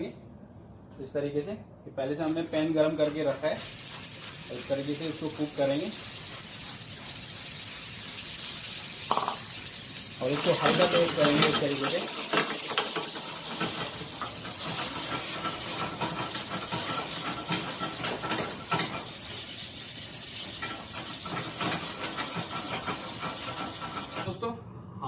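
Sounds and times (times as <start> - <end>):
fish sizzling in frying pan: 3.7 - 24.3.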